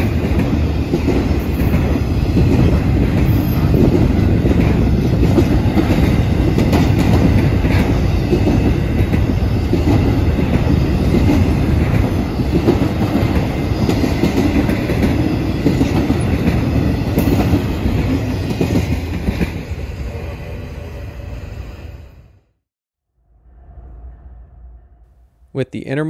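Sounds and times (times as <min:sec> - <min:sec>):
freight train cars rolling: 0:00.0 - 0:22.1.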